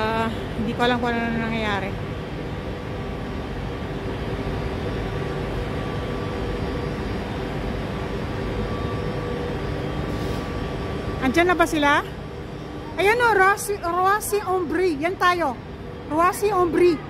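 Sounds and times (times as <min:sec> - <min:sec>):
stationary train humming: 0:00.0 - 0:17.0.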